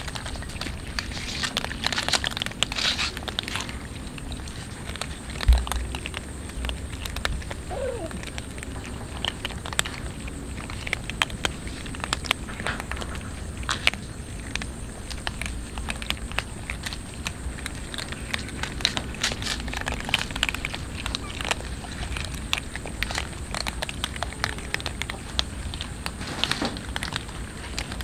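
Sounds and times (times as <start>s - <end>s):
cats crunching dry kibble: 0.0s - 28.0s.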